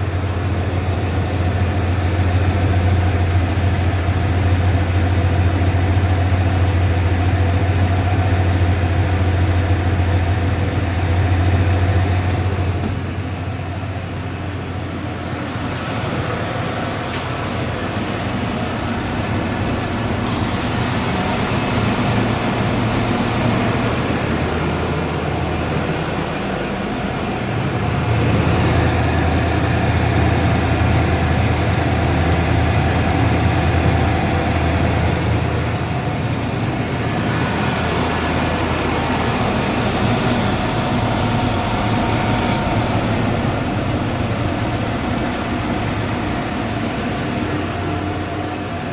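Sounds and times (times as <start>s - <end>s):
engine idling: 0.0s - 48.9s
engine ticking: 0.0s - 48.9s.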